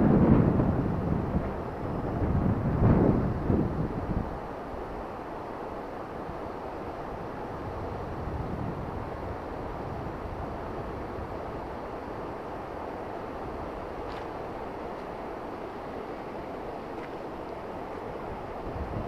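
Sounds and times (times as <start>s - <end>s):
river water rushing: 3.3s - 19.0s.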